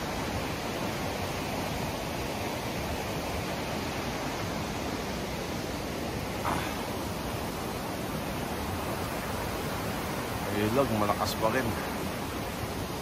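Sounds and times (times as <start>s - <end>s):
fast-flowing river rushing: 0.0s - 13.0s.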